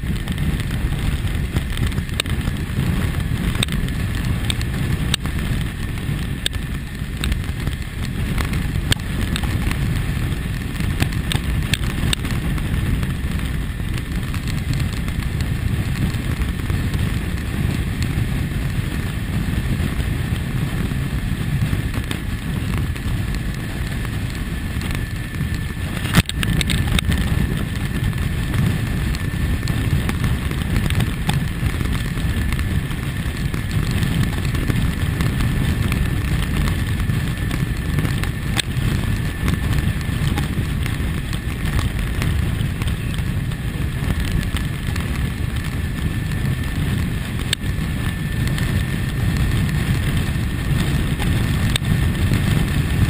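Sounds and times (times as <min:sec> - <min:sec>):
motorcycle engine cruising: 0:00.0 - 0:53.0
wind rushing over microphone: 0:00.0 - 0:53.0.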